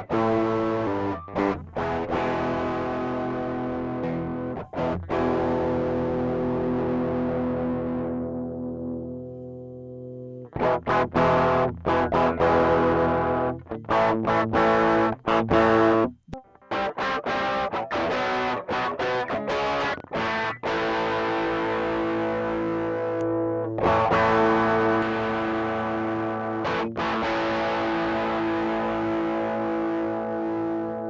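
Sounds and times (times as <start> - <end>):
distorted electric guitar chords: 0.0 - 31.0.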